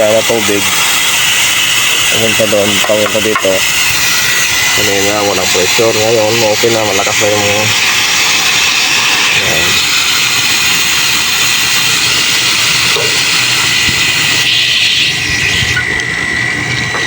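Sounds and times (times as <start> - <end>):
water pump whine: 0.0 - 17.0
water rushing through pipes: 0.0 - 17.0.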